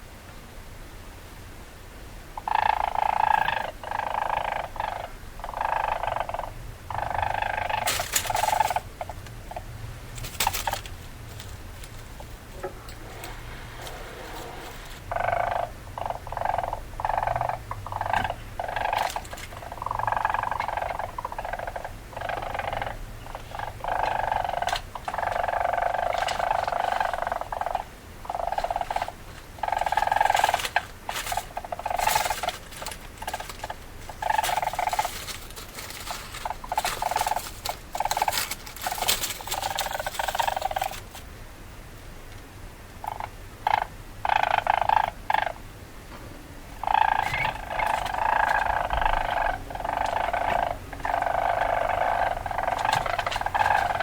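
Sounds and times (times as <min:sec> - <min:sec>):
weasel chattering: 0:02.4 - 0:09.7, 0:11.9 - 0:41.2, 0:43.0 - 0:45.6, 0:46.8 - 0:54.0.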